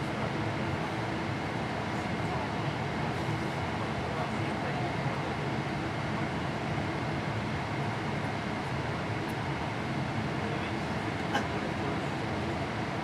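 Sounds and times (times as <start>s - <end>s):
airplane cabin airflow and engines: 0.0s - 13.0s.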